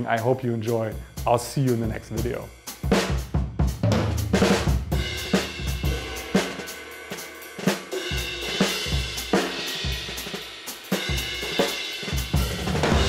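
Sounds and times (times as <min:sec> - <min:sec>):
drum kit beat: 0:00.0 - 0:13.0.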